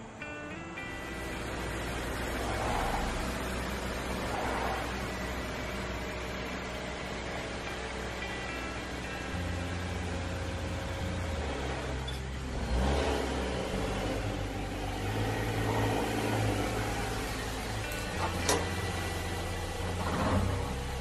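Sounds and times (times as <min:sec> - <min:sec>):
car engine running: 0:00.0 - 0:21.0
car pulling up on pavement: 0:00.0 - 0:21.0.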